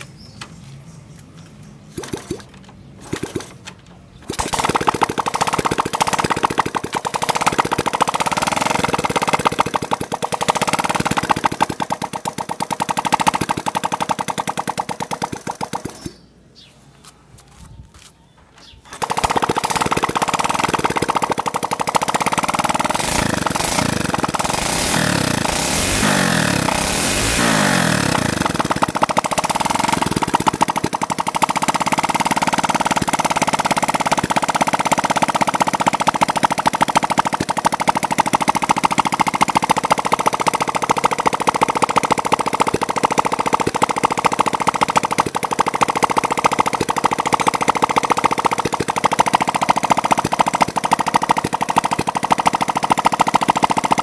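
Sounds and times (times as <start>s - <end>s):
motorcycle engine popping rattle: 0.0s - 16.3s, 18.6s - 54.0s.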